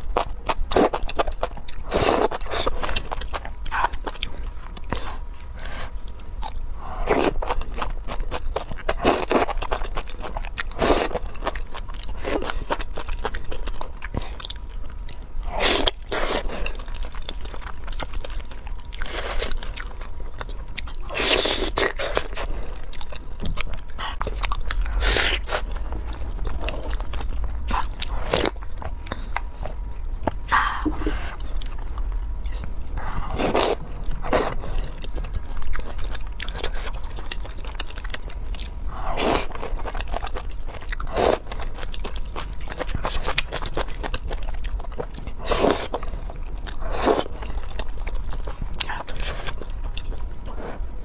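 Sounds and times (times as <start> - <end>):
biting and chewing: 0.0 - 30.4, 31.3 - 51.0.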